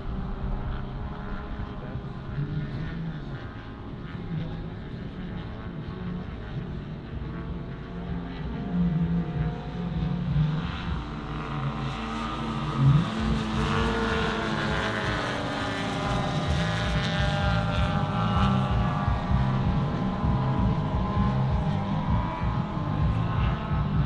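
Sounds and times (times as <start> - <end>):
model aircraft propeller engine: 0.0 - 24.0.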